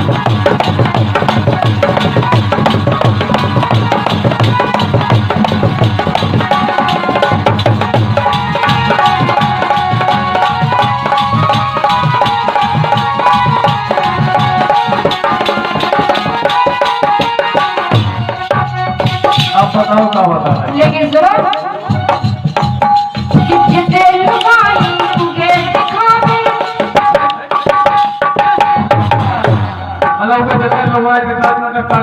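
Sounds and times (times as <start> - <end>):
folk melody line: 0.0 - 31.7
fast hand-drum rhythm: 0.0 - 32.0.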